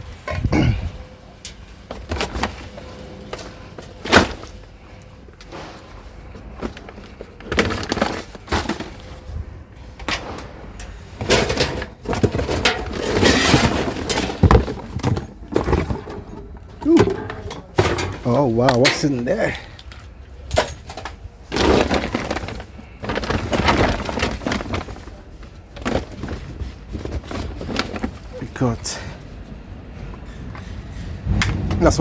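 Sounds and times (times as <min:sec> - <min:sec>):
rubbish rustling: 0:00.0 - 0:31.4
objects clattering in rubbish: 0:00.0 - 0:32.0.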